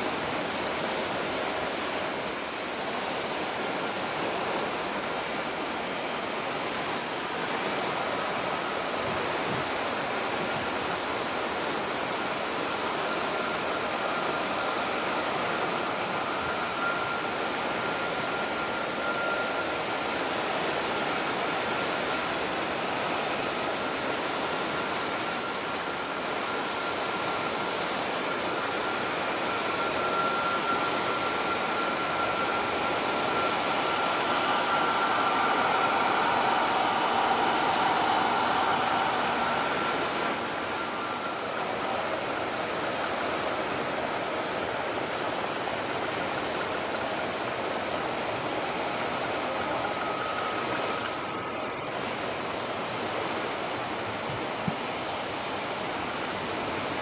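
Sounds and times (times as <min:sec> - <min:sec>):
jet engines rushing with whine: 0:00.0 - 0:57.0.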